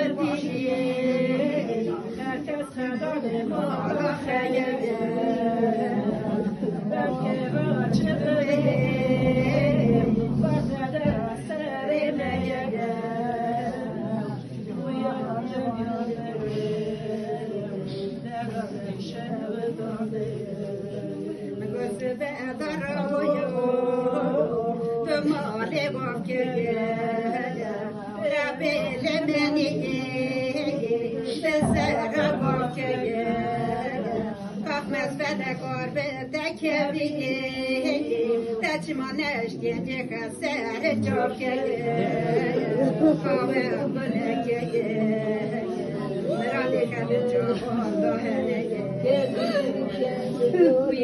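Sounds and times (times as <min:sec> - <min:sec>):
women singing a lament: 0:00.0 - 0:51.0.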